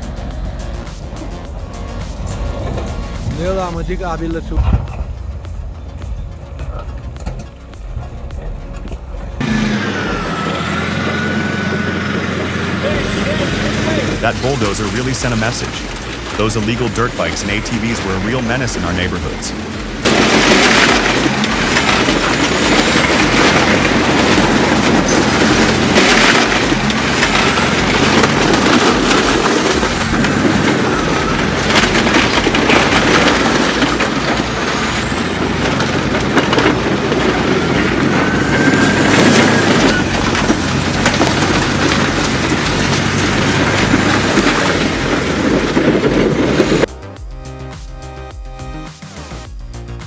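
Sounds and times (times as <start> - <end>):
steel tracks clattering: 0.0 - 46.9
bulldozer engine under load: 0.0 - 47.0.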